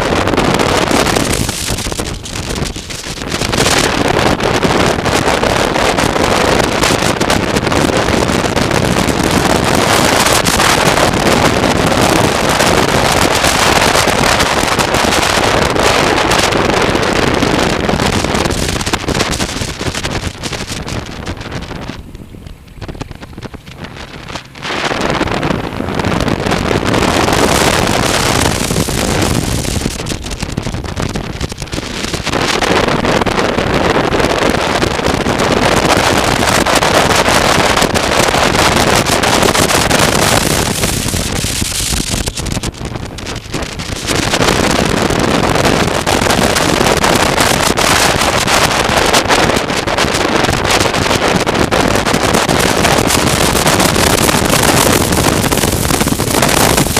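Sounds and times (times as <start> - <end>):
motorcycle engine: 0.0 - 49.3
road noise: 0.0 - 56.9
wind rushing over microphone: 0.0 - 56.9.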